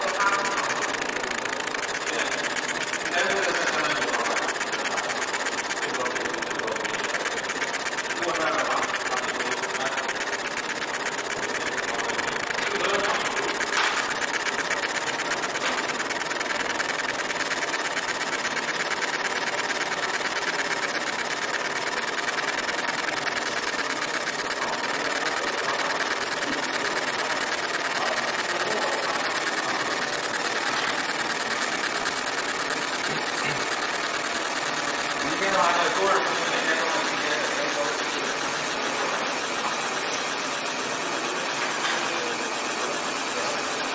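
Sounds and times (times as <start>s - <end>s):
laser machine pulsing buzz: 0.0s - 43.9s.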